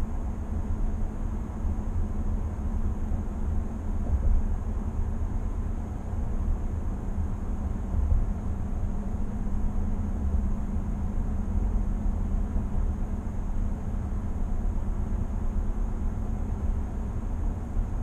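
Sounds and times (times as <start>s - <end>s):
road and tyre noise in cab: 0.0s - 18.0s.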